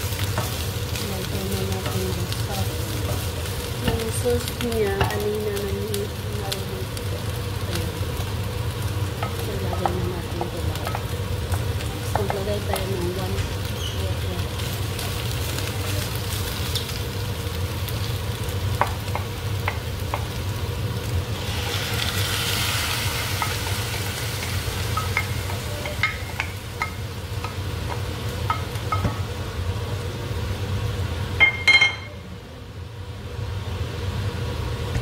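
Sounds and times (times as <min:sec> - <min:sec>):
chicken livers sizzling in a pot: 0:00.0 - 0:35.0.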